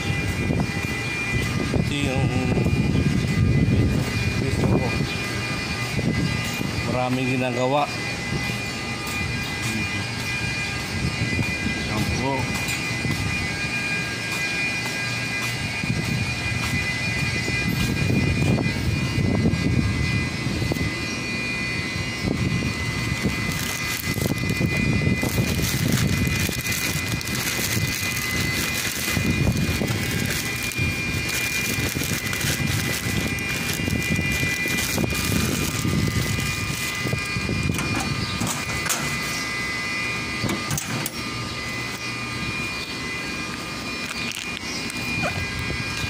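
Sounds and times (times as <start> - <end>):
high steady whine: 0.0 - 46.0
machine drone: 0.0 - 46.0.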